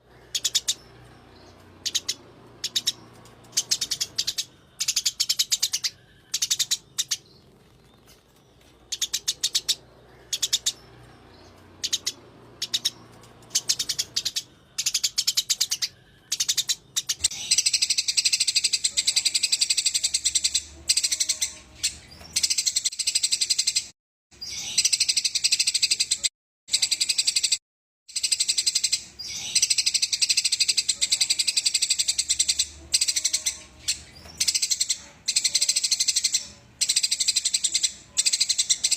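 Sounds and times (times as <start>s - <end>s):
sparrows chattering: 0.0s - 38.9s.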